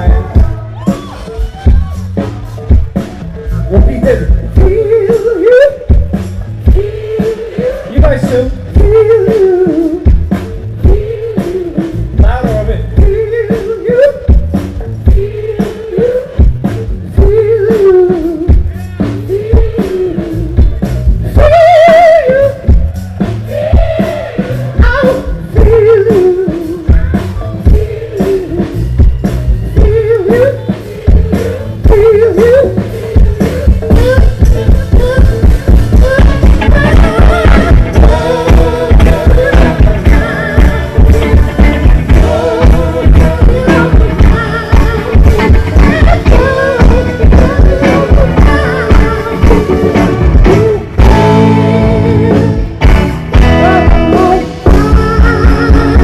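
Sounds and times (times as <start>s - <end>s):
steady drum beat: 0.0s - 56.0s
person singing into microphone: 3.5s - 56.0s.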